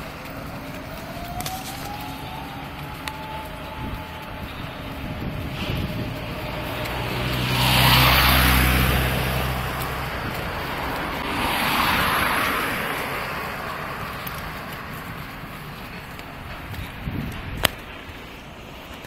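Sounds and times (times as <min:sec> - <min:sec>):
car passing by: 0:00.0 - 0:17.2
steady traffic noise: 0:00.0 - 0:19.0.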